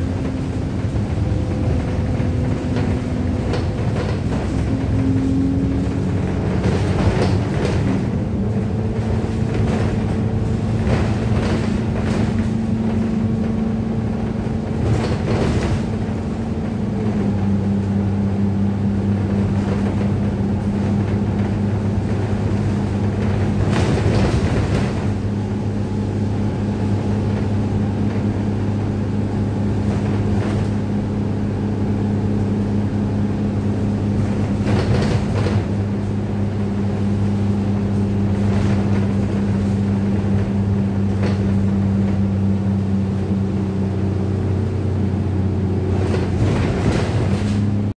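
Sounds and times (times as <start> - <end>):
bus body knocks and rattles: 0.0 - 47.9
bus engine running: 0.0 - 47.9
road noise: 0.0 - 47.9.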